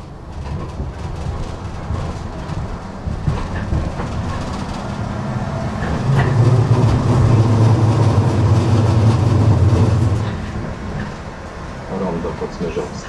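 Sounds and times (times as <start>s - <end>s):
tram rumbling on rails: 0.0s - 13.0s.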